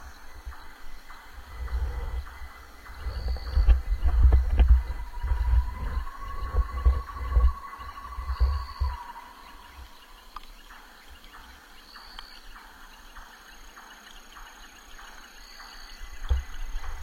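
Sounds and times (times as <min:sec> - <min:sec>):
insects calling: 0:00.0 - 0:17.0.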